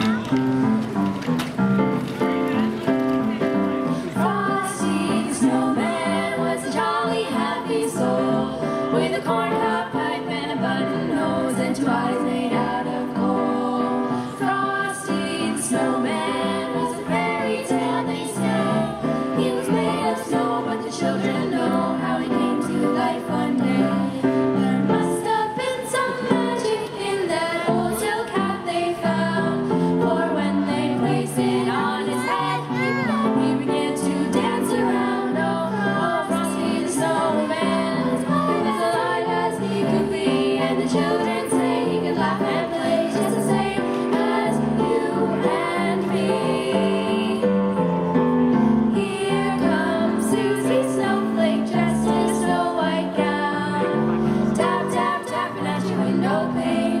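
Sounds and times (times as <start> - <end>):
girls choir singing: 3.4 - 57.0.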